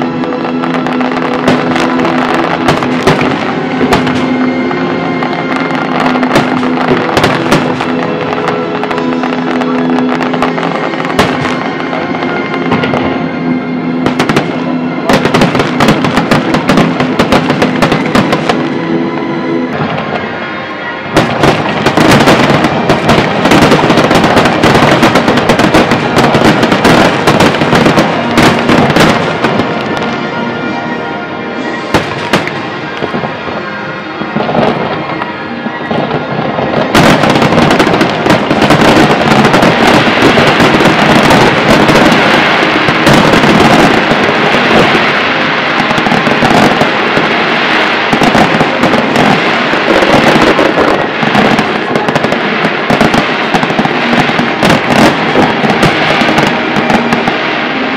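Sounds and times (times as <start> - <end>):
fireworks bursting and crackling: 0.0 - 57.9
music: 0.0 - 57.9.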